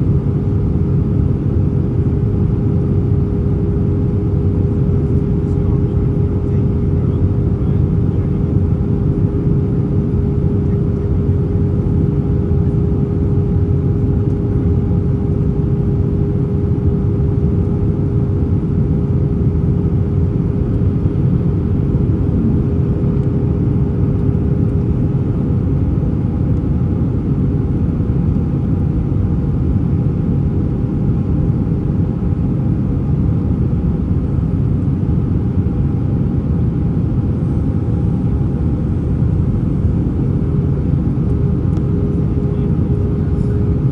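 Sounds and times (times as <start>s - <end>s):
airplane cabin engine rush: 0.0s - 43.9s
constant hum: 0.0s - 43.9s.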